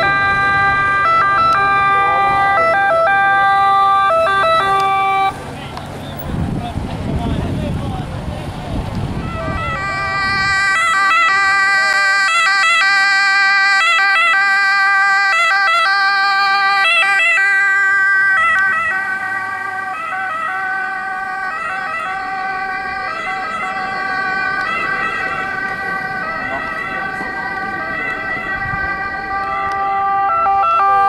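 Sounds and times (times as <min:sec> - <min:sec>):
ambulance siren: 0:00.0 - 0:05.4, 0:09.2 - 0:31.0.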